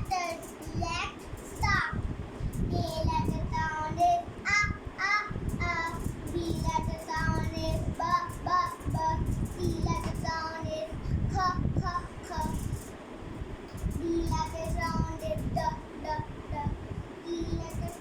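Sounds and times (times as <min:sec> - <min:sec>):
child singing syllables: 0:00.0 - 0:12.8, 0:13.9 - 0:18.0.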